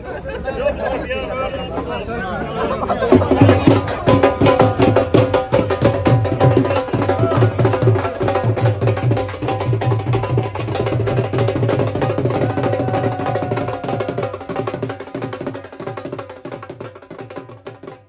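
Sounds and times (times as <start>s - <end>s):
barrel drum beaten with sticks: 3.1s - 18.0s.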